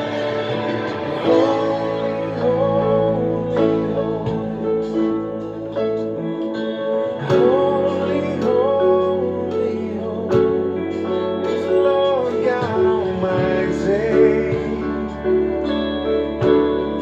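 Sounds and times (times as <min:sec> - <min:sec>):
gliding melody line: 0:00.0 - 0:17.0
worship song with guitar: 0:00.0 - 0:17.0.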